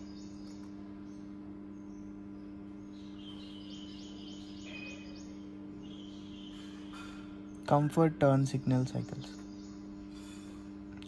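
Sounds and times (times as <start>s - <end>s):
birds chirping: 0.0s - 11.0s
low electrical hum: 0.0s - 11.0s.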